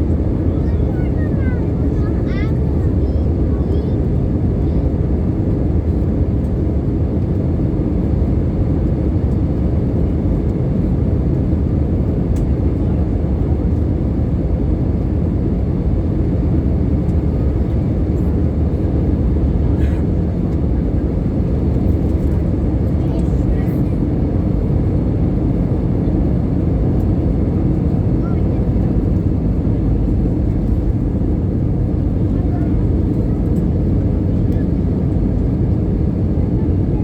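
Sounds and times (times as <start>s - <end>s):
airplane cabin rumble: 0.0s - 37.0s.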